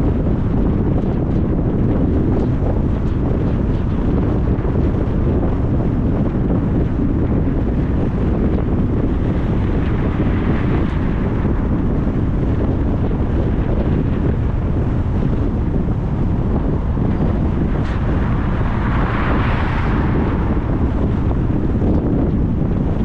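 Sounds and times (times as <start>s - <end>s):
low road rumble: 0.0s - 23.0s
wind buffeting microphone: 0.0s - 23.0s.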